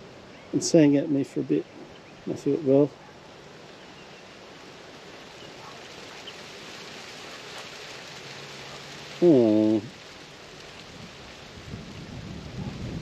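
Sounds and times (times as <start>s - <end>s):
hiss of falling water: 0.0s - 13.0s.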